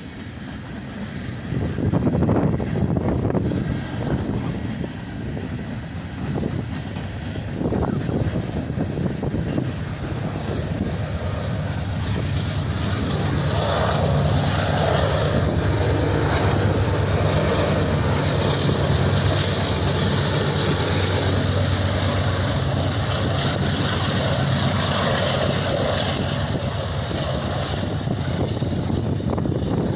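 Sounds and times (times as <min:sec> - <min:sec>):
diesel locomotive engine drone: 0:00.0 - 0:29.9
train wheels on rails: 0:00.0 - 0:29.9.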